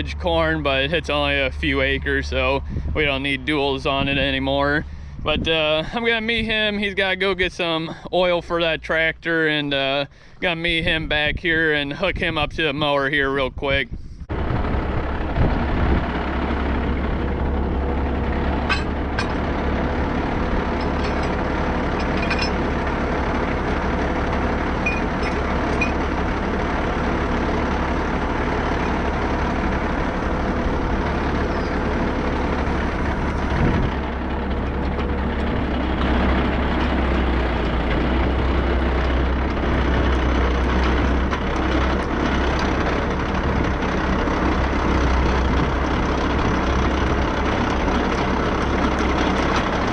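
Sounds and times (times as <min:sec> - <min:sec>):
heavy vehicle engine droning: 0:00.0 - 0:49.9.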